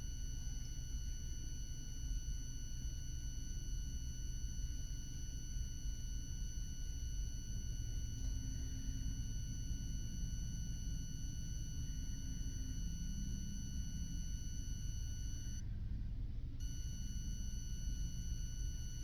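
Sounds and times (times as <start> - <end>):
high-pitched electronic whine: 0.0 - 15.6, 16.6 - 19.0
low room rumble: 0.0 - 19.0.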